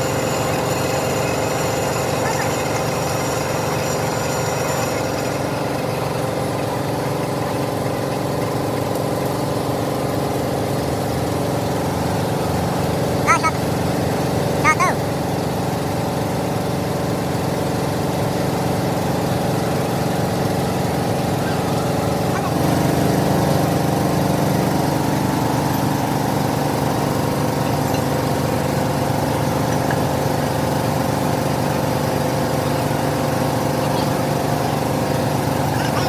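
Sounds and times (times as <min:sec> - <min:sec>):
heavy machine motor drone: 0:00.0 - 0:36.0.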